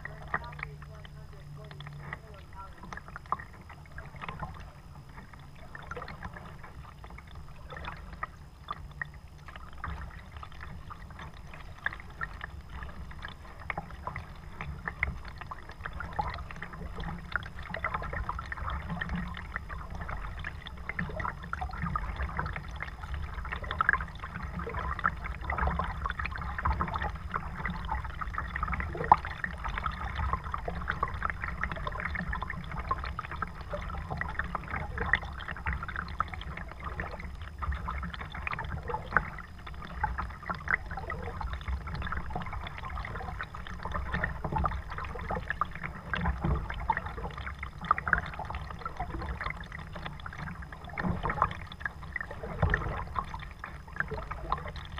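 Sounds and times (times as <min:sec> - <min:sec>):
paddle splashing water: 0:00.0 - 0:54.9
steady low rumble: 0:00.0 - 0:54.9.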